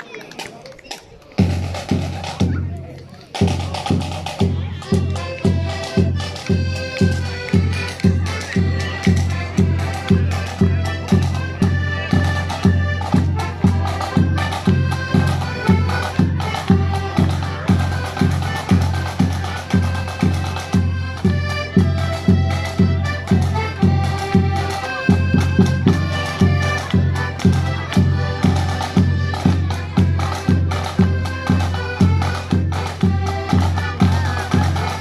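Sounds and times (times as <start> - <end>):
accordion band march: 0.0 - 35.0
bass drum beat: 3.4 - 35.0.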